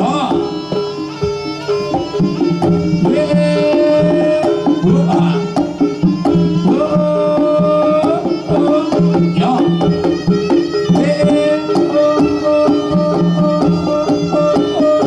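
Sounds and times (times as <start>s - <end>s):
hand drum strokes: 0.0s - 15.0s
held melody notes: 0.0s - 15.0s.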